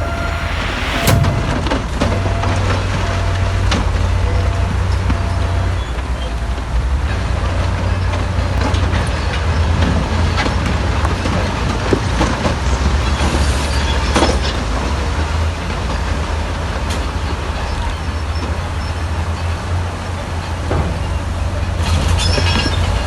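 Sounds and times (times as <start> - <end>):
diesel engine rumbling: 0.0 - 23.0
steel tracks clanking: 0.0 - 23.0.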